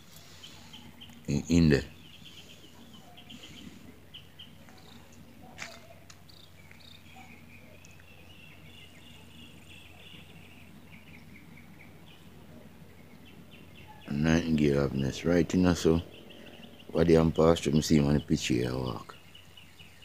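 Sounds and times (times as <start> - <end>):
bird chirps: 0.0 - 20.0
bird trill: 0.0 - 20.0
low steady hum: 0.0 - 20.0.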